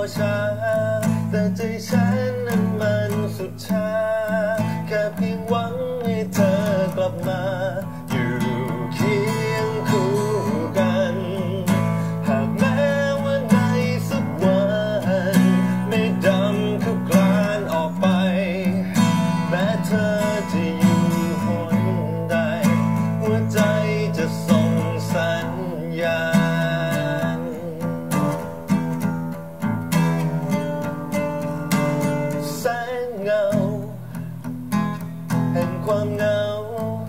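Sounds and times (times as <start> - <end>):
man singing pop ballad: 0.0 - 29.1, 29.7 - 34.3, 35.0 - 37.0
acoustic guitar strumming: 0.0 - 37.0.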